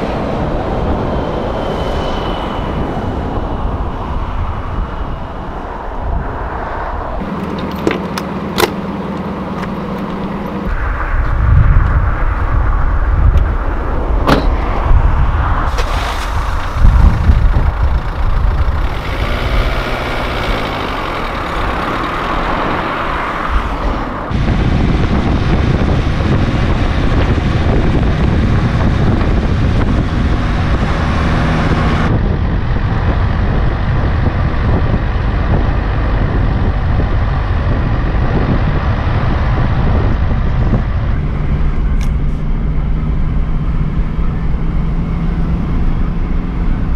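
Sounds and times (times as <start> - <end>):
wind rumble on microphone: 0.0 - 7.9, 10.2 - 46.9
car engine hum: 0.0 - 46.9
tyres rumbling on road: 0.0 - 46.9.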